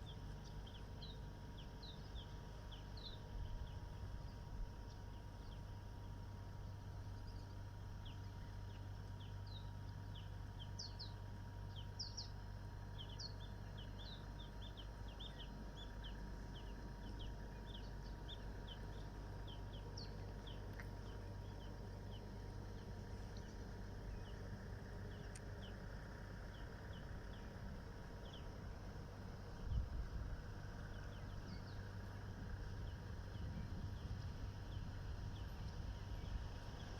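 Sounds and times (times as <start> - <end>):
small birds chirping: 0.0 - 36.9
steady low rumble: 0.0 - 36.9.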